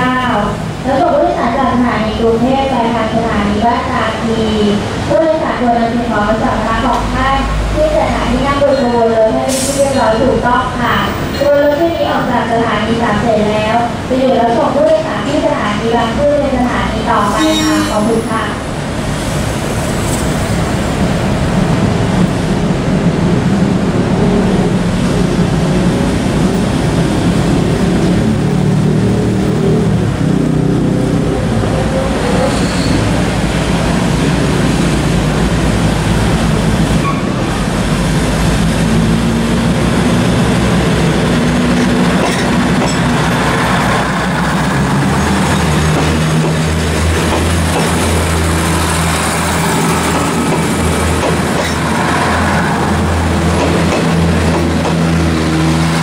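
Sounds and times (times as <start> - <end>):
diesel locomotive engine: 0.0 - 56.0
train coaches rolling: 0.0 - 56.0.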